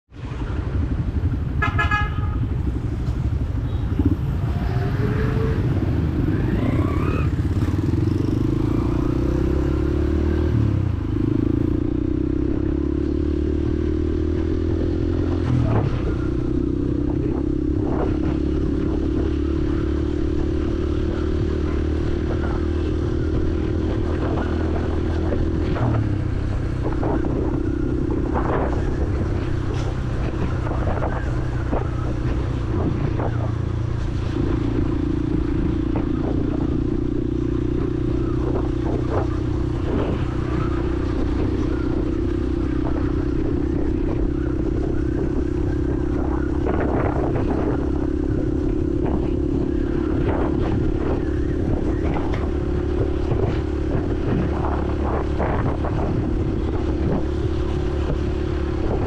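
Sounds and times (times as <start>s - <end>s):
street noise: 0.1s - 59.0s
motorcycle engine running: 0.2s - 59.0s.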